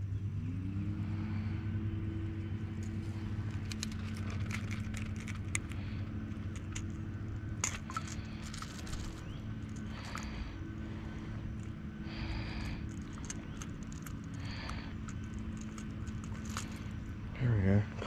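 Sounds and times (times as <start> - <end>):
motor running: 0.0 - 17.8
low hum: 0.0 - 18.0.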